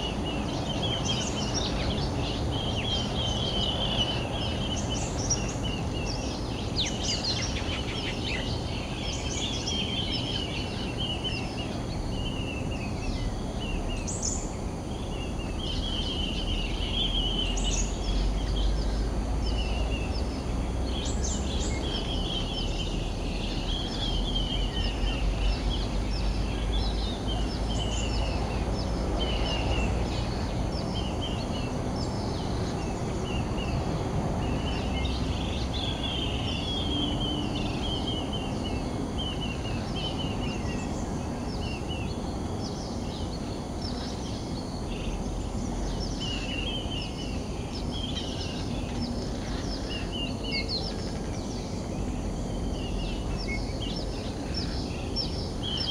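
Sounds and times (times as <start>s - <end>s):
low wind rumble: 0.0s - 55.9s.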